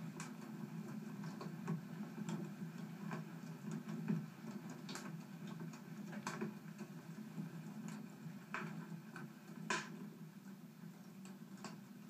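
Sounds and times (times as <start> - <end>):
logs crackling and popping: 0.0 - 10.1.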